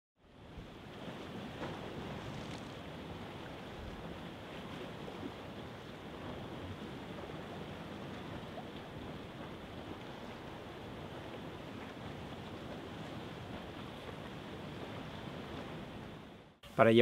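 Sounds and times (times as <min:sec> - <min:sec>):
wind: 0:00.2 - 0:17.0
sea waves rushing: 0:00.3 - 0:17.0.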